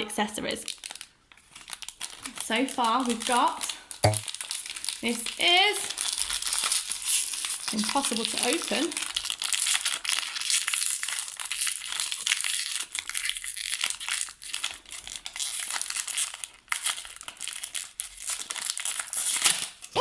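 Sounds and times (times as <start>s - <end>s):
plastic wrapper crinkling: 0.7s - 19.9s.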